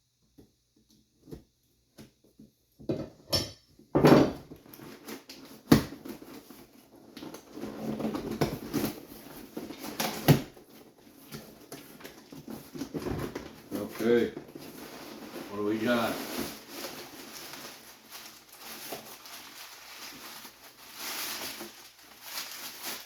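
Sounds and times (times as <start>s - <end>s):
packaging rustling and scraping: 4.4s - 23.0s.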